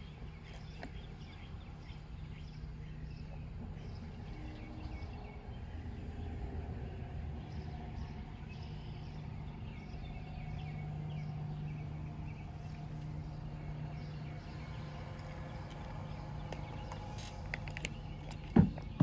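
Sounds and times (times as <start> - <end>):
birds chirping: 0.0 - 19.0
car engine low hum: 0.0 - 19.0.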